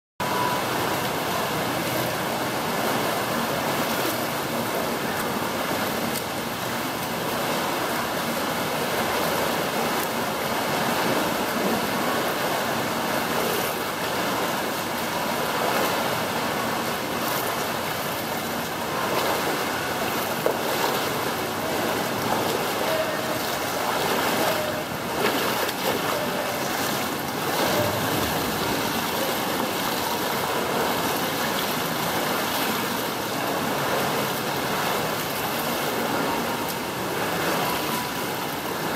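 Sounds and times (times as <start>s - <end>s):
pool hall background din: 0.2s - 38.9s
swimmers splashing water: 0.2s - 38.9s.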